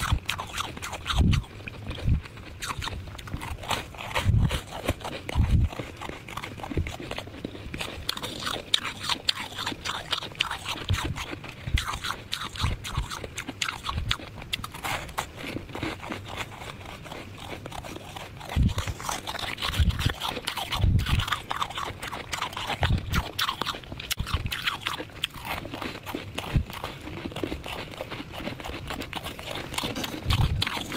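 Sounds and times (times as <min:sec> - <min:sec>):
ice being chewed crunching: 0:00.0 - 0:30.9.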